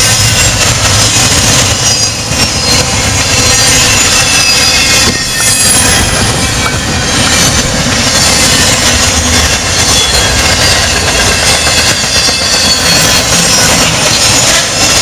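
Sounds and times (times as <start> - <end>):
freight train rumble and rattle: 0.0 - 15.0.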